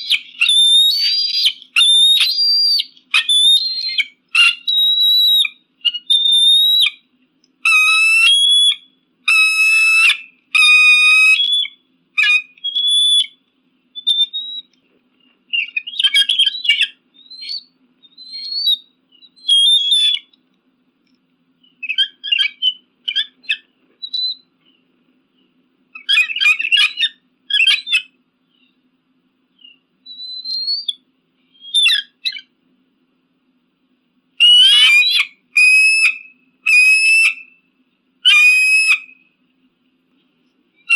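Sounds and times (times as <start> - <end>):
eagle whistled cries: 0.0 - 13.4, 14.0 - 20.4, 21.6 - 24.5, 25.9 - 28.8, 29.6 - 32.5, 34.4 - 39.4.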